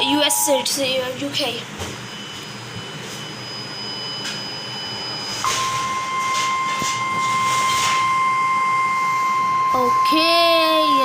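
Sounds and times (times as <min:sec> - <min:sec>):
long emergency alert beep: 0:00.0 - 0:01.1, 0:02.1 - 0:11.0.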